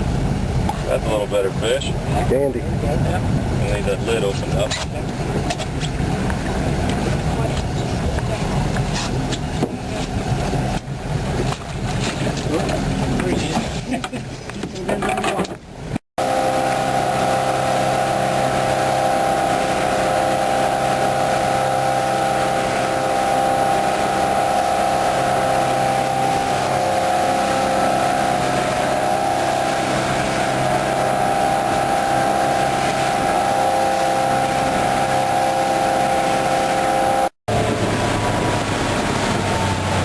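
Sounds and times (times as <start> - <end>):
boat engine droning: 0.0 - 40.0
water rushing against hull: 0.0 - 40.0.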